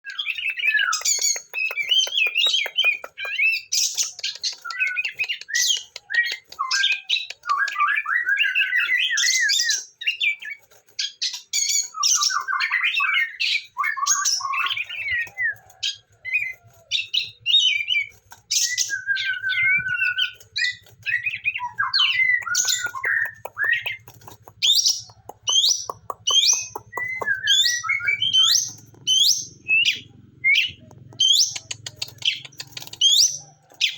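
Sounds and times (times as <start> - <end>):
songbird singing: 0.0 - 10.5, 11.2 - 33.9.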